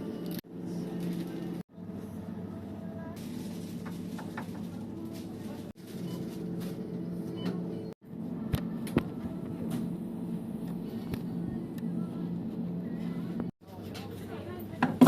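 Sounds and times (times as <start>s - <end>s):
ice cream machine motor hum: 0.0s - 15.0s.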